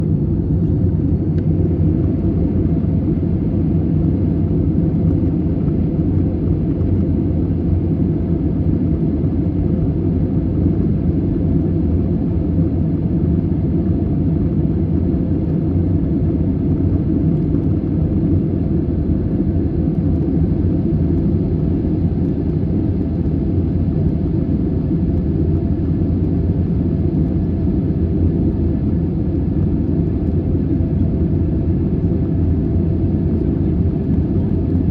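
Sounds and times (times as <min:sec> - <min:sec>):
jet airliner engine rumble: 0:00.0 - 0:34.9.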